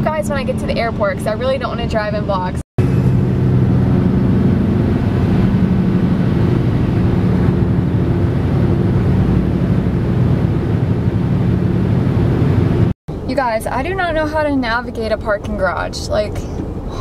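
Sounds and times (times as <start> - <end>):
car engine hum: 0.0 - 17.0
tyre and road noise: 0.0 - 17.0.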